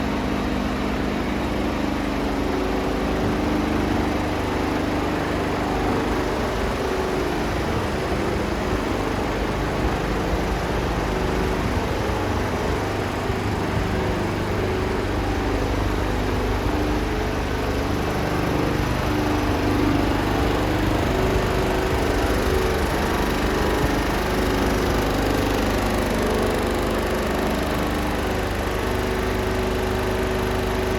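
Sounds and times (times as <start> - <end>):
diesel truck engine idling: 0.0 - 30.9.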